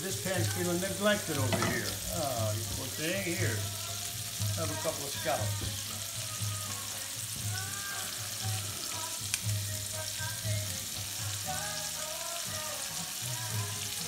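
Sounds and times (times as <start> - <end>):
scallops sizzling in a pan: 0.0 - 14.0.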